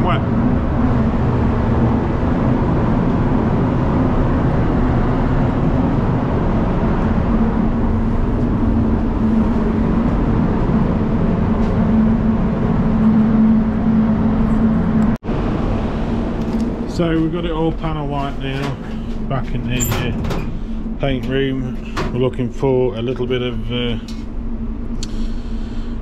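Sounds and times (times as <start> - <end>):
fans rushing: 0.0 - 25.9
low constant hum: 0.0 - 26.0.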